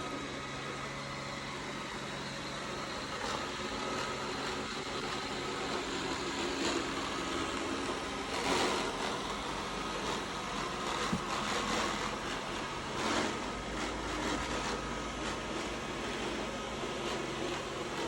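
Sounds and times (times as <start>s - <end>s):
robot vacuum motor hum: 0.0s - 18.0s.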